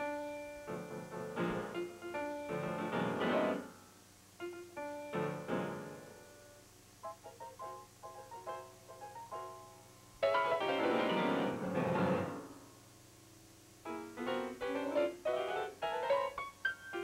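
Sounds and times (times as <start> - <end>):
solo piano: 0.0 - 12.8, 13.8 - 17.0.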